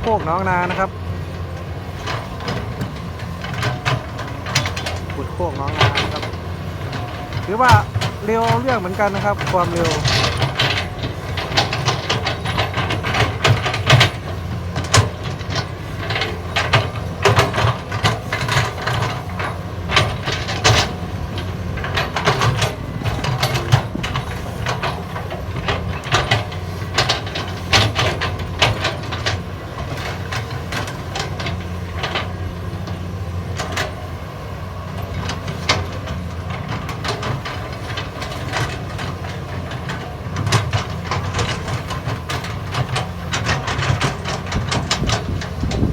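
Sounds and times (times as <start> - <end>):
excavator diesel engine running: 0.0 - 45.9
knocks and clatter: 1.5 - 34.2, 34.9 - 45.9.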